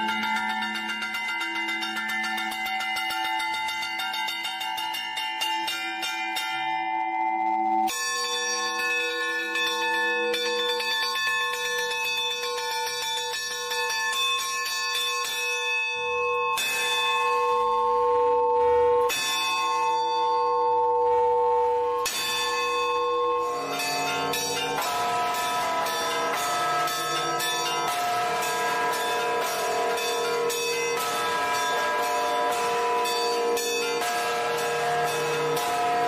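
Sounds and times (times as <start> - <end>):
church bells ringing: 0.0 - 36.0.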